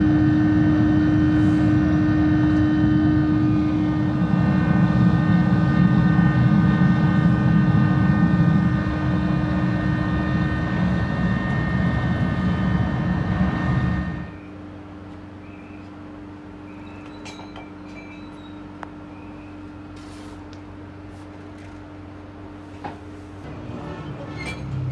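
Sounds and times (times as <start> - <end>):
machine drone with whine: 0.0 - 20.2.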